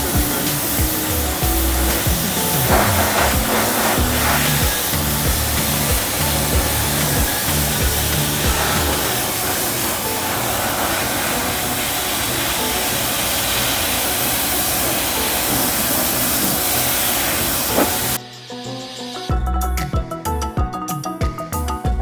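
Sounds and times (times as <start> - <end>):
pressure washer motor running: 0.0 - 18.2
pressure washer spray hissing: 0.0 - 18.2.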